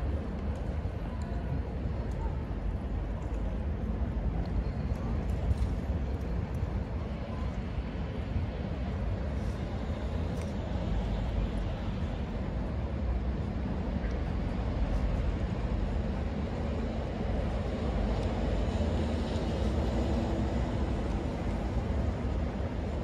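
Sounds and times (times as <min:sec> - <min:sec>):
low city rumble: 0:00.0 - 0:23.0.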